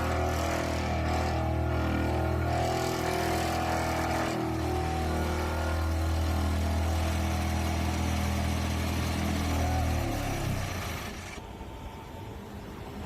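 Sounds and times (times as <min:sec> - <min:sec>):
vibratory pile driver humming: 0:00.0 - 0:11.6.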